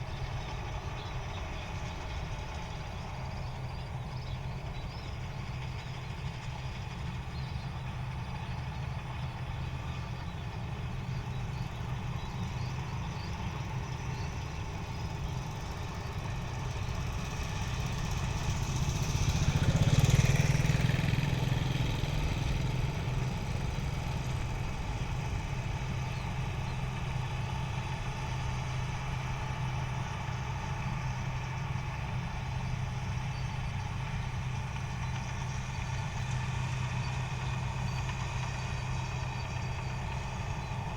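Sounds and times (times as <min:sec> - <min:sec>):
harvester engine humming: 0:00.0 - 0:40.9.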